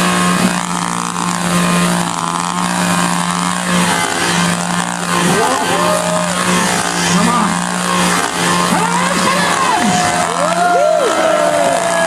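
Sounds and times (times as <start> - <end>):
chainsaw engine revving: 0.0 - 12.0.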